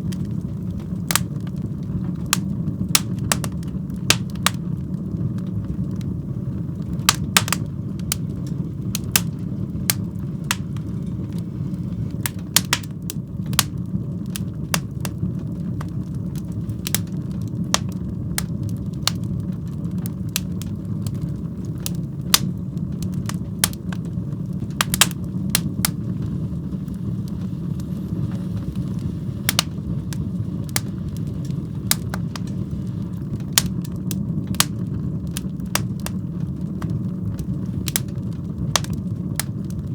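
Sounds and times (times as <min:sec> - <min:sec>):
fire crackles and pops: 0:00.0 - 0:39.9
wood fire burning: 0:00.0 - 0:39.9.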